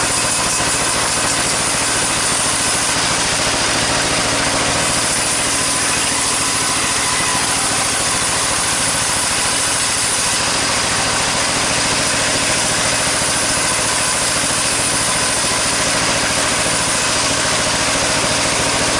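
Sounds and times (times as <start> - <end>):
loud machinery hiss: 0.0 - 18.9
sawmill engine running: 0.0 - 18.9.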